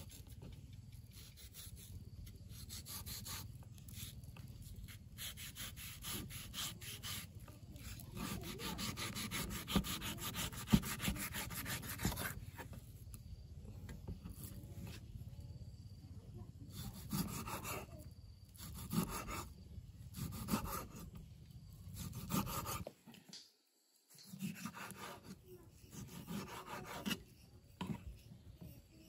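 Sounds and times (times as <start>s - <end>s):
scraping strokes on wood: 0.0s - 13.0s, 16.7s - 21.3s, 21.9s - 23.3s, 24.1s - 29.0s.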